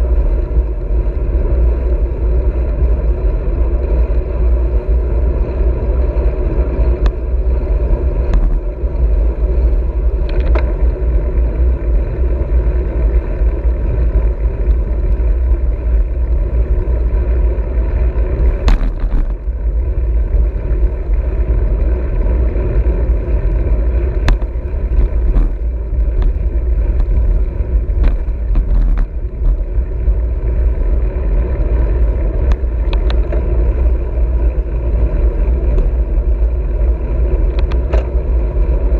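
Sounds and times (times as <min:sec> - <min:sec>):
bicycle tyre noise: 0:00.0 - 0:38.9
wind buffeting microphone: 0:00.0 - 0:38.9.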